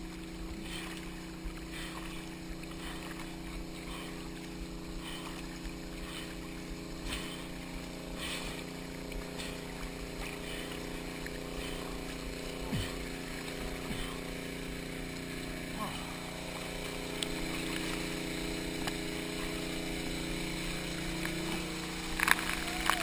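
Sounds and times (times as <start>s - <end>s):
steady low hum: 0.0s - 23.0s
water sloshing and splashing: 0.0s - 23.0s.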